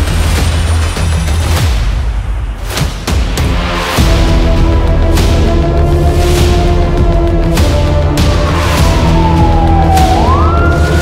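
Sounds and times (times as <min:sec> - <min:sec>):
cinematic music with deep bass: 0:00.0 - 0:11.0.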